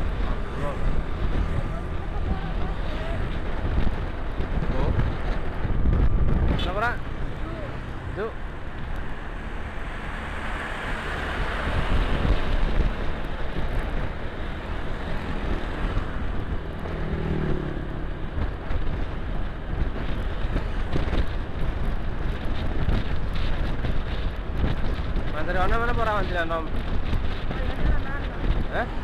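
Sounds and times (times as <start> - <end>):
road noise: 0.0 - 29.0
wind on microphone: 0.0 - 29.0.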